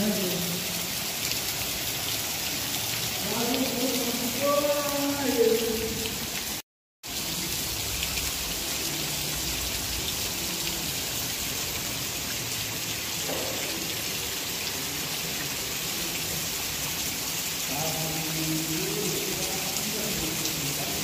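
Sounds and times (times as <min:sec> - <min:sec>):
rain on concrete: 0:00.0 - 0:21.0.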